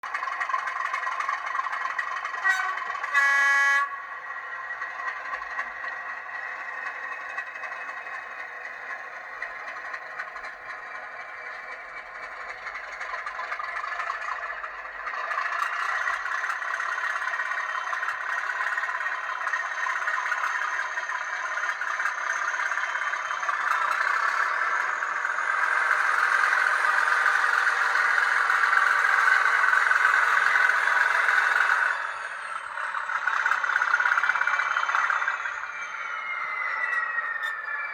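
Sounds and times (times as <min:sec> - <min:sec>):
model locomotive diesel engine sound: 0:00.0 - 0:37.9.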